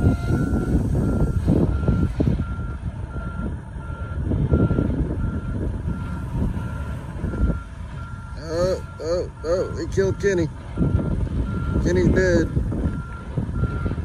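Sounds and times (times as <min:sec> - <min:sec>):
diesel engine running: 0:00.0 - 0:14.0
truck backup alarm beeping: 0:00.0 - 0:14.0.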